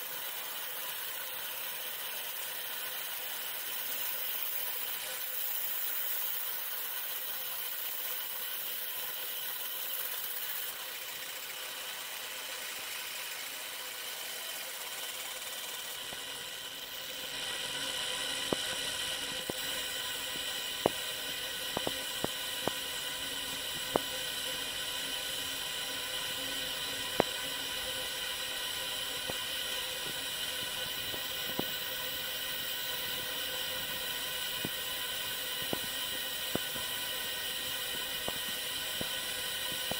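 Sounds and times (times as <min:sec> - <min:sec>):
laser engraving hiss and whine: 0:00.0 - 0:39.9.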